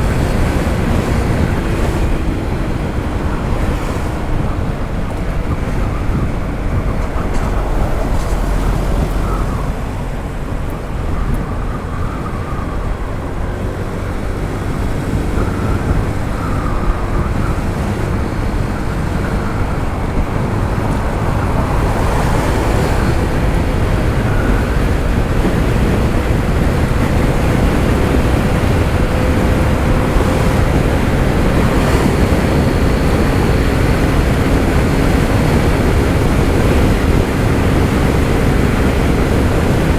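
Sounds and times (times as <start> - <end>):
scooter engine running: 0.0 - 39.9
wind rushing over microphone: 0.0 - 39.9.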